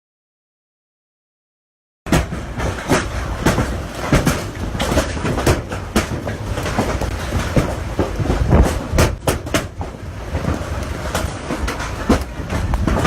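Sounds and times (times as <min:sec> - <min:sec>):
sharp knocks: 0:02.1 - 0:13.0
storm roaring: 0:02.1 - 0:13.0.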